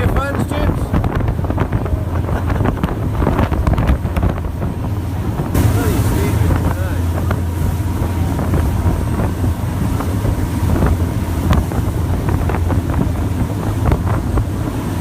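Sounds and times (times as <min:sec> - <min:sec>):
boat engines droning: 0:00.0 - 0:15.0
wind buffeting microphone: 0:00.0 - 0:15.0.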